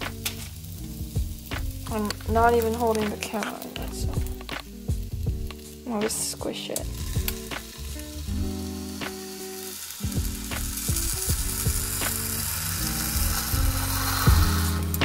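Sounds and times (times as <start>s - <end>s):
dough sizzling in waffle maker: 0.0s - 15.0s
music with held chords: 0.0s - 15.0s.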